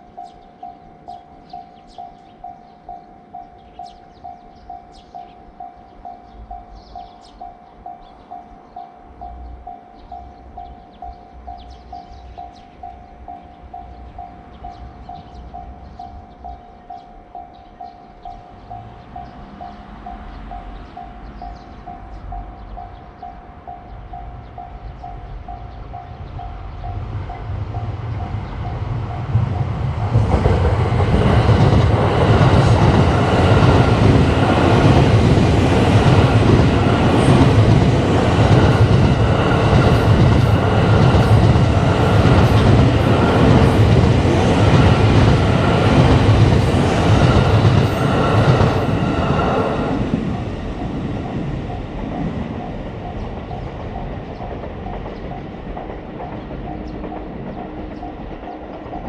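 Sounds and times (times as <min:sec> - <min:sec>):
train passing: 0:00.0 - 0:59.0
wheels clacking on rail joints: 0:10.1 - 0:59.0.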